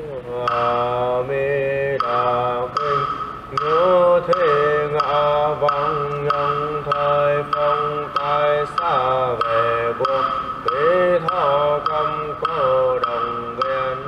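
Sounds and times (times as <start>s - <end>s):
steady held drone tone: 0.0s - 14.0s
voice chanting a mantra: 0.0s - 14.0s.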